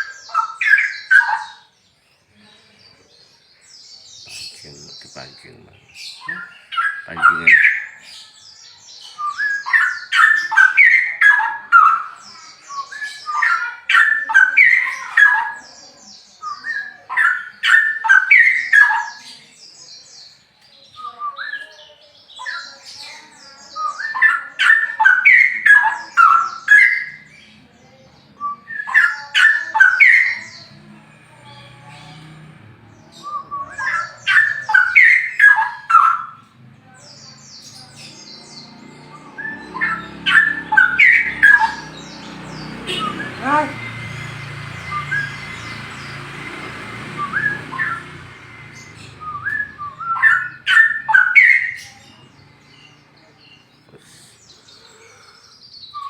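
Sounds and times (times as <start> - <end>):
bird singing loud phrases: 0.0 - 56.0.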